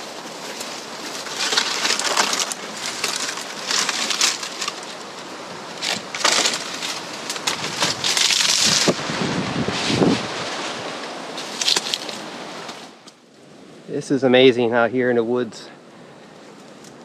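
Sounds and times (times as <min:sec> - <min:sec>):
dry fronds and brush rustling: 0:00.0 - 0:17.0.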